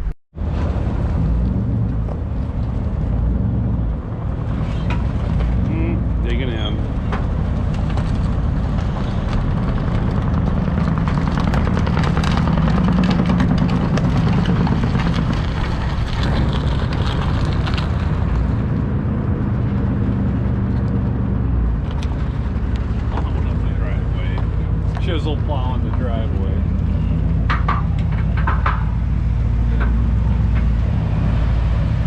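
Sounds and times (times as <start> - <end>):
pickup truck engine running: 0.0 - 32.0.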